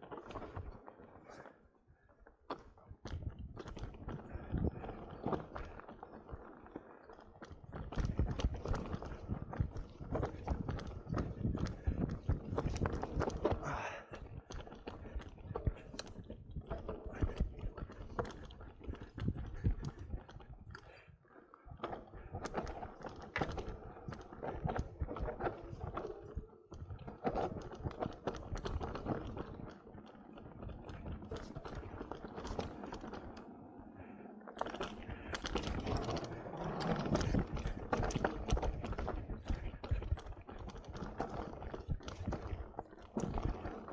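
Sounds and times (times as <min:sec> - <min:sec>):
bike rattling over bumps: 0:03.0 - 0:21.0, 0:21.8 - 0:33.4, 0:34.6 - 0:43.9.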